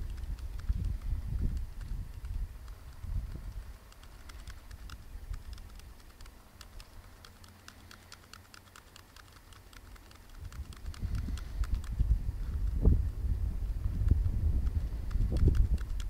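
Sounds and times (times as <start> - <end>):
laptop keys clicking: 0.0 - 12.0, 14.0 - 16.0.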